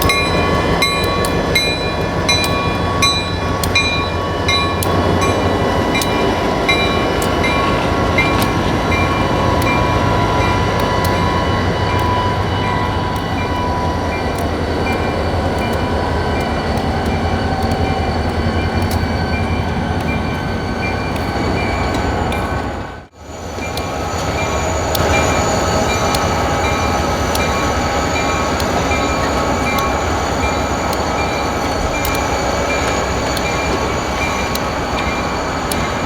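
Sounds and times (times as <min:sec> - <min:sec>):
freight train rumbling on rails: 0:00.0 - 0:36.0
rail clicks: 0:00.0 - 0:36.0.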